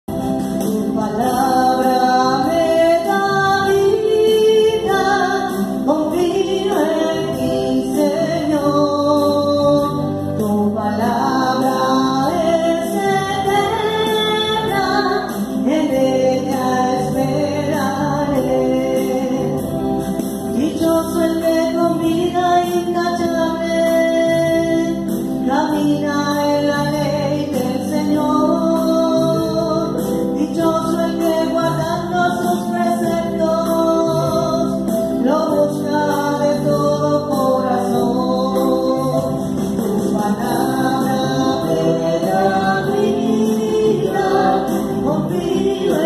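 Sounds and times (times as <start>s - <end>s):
electronic keyboard chords: 0.0s - 46.0s
person singing slow religious song: 0.4s - 46.0s.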